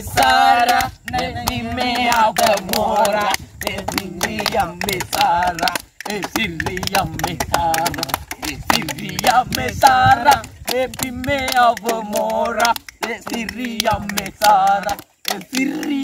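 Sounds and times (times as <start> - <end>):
hand claps and knocks: 0.0 - 16.0
young men singing together: 0.0 - 16.0.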